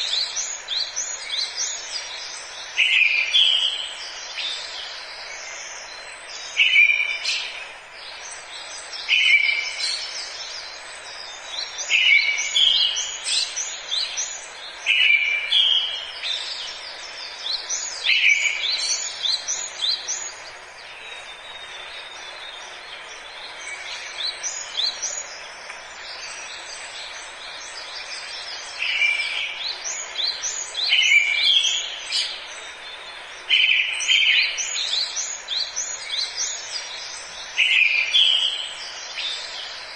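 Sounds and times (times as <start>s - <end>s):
birds chirping high: 0.0s - 39.9s
steady background hiss: 0.0s - 39.9s.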